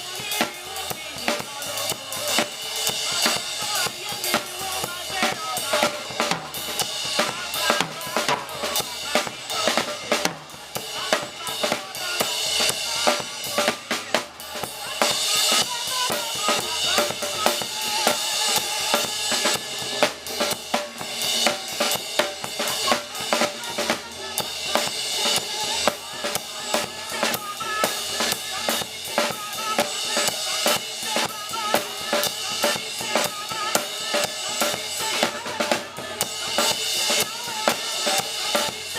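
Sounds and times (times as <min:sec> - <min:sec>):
church band music: 0:00.0 - 0:38.9
drum kit playing steady beat: 0:00.0 - 0:38.9.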